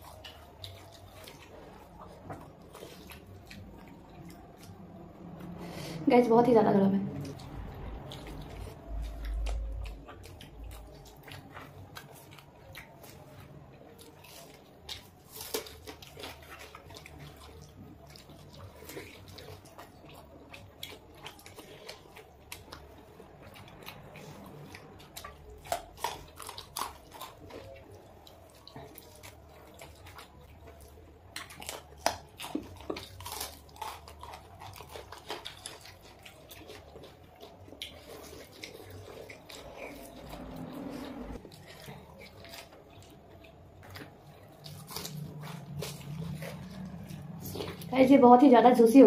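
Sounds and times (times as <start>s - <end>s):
wet chewing and biting: 0.0s - 6.4s, 7.0s - 49.0s.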